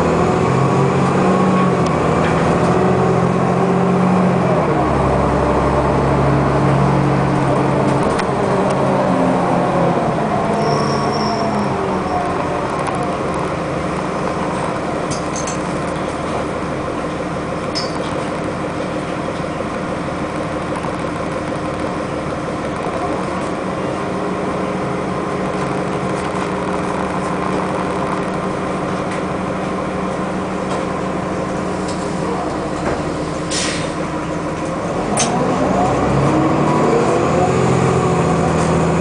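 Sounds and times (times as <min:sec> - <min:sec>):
bus diesel engine droning: 0:00.0 - 0:39.0.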